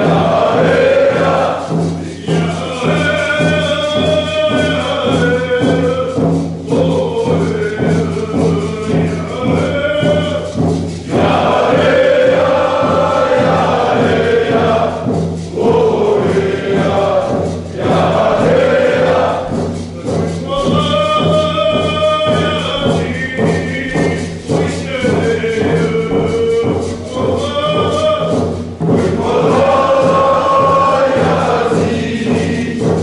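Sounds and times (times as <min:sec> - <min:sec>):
group of voices singing: 0:00.0 - 0:33.0.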